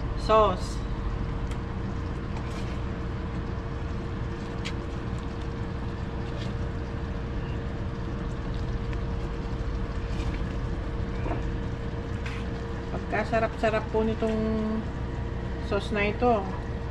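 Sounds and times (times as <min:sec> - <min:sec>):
steady machine hum: 0:00.0 - 0:16.9.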